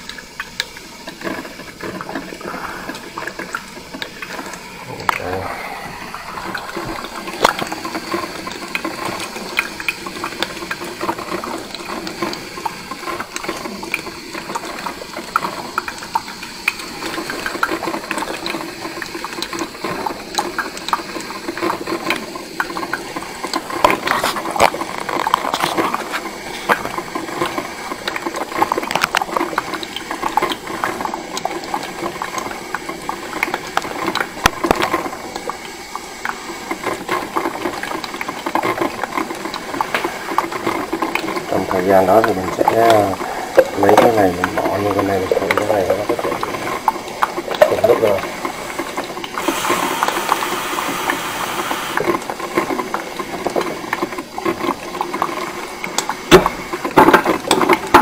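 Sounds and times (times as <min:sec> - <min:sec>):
coffee machine gurgling and hissing: 0:00.0 - 0:58.0.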